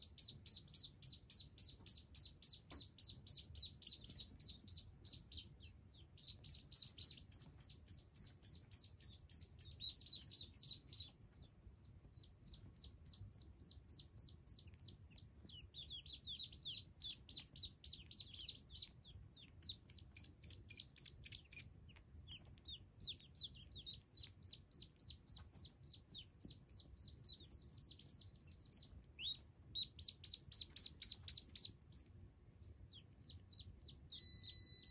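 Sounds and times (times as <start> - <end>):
ducklings peeping: 0.0 - 34.9.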